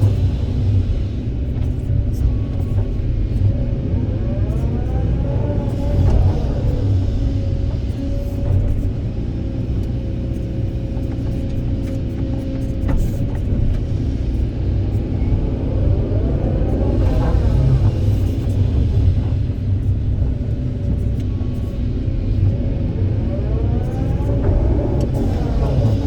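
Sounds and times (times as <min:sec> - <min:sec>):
excavator engine and hydraulics: 0:00.0 - 0:26.0
hydraulic whine: 0:00.0 - 0:26.0.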